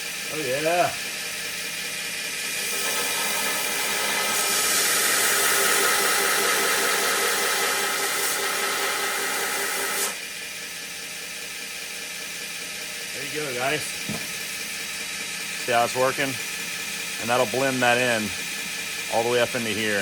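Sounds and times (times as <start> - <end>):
belt grinder motor hum: 0.0 - 20.0.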